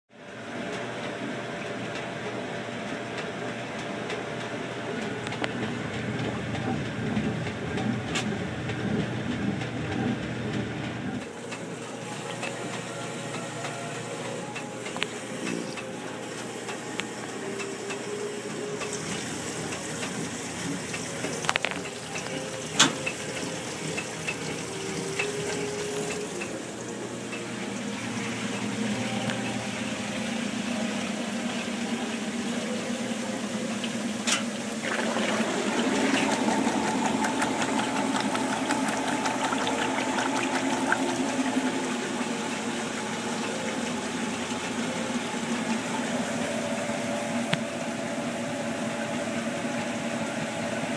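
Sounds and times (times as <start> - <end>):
washing machine churning: 0.1 - 50.9.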